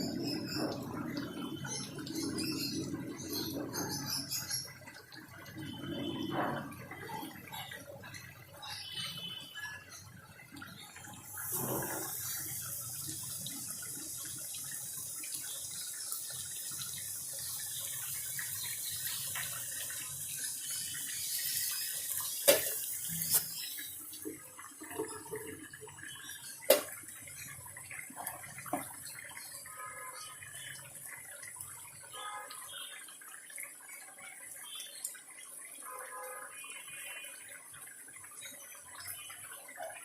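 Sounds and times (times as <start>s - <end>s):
water running from a tap: 0.0s - 40.0s.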